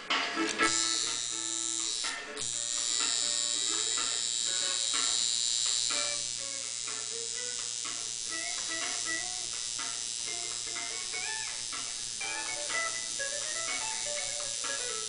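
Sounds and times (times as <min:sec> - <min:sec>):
background music: 0:00.0 - 0:15.0
tattoo machine buzzing: 0:00.1 - 0:15.0.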